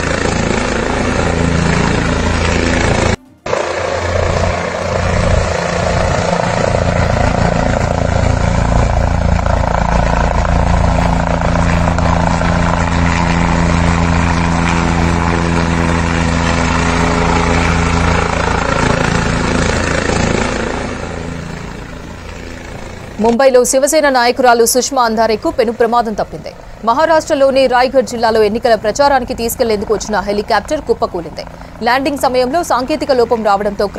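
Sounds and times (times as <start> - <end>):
helicopter rotor and engine: 0.0 - 33.9
steady humming tone: 0.0 - 33.9.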